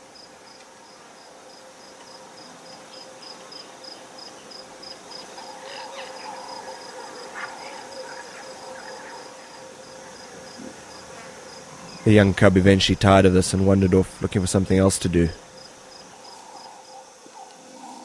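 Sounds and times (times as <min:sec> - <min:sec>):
insect chirping: 0:00.0 - 0:18.0
faint low drone: 0:00.7 - 0:18.0.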